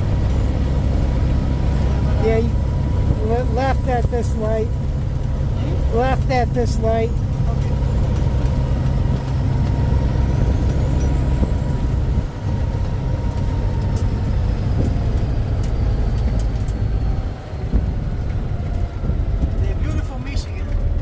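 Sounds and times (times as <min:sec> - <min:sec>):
truck diesel engine rumble: 0:00.0 - 0:21.0.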